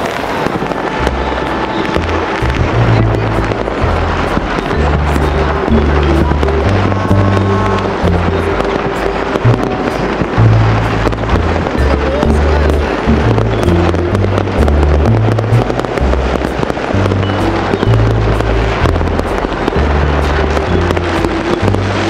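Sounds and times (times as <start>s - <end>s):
fireworks popping and crackling: 0.0s - 22.0s
music with deep bass line: 0.6s - 22.0s.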